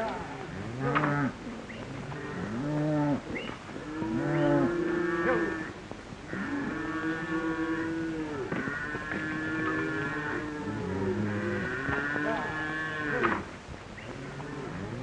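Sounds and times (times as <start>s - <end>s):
cattle mooing: 0.0s - 13.5s.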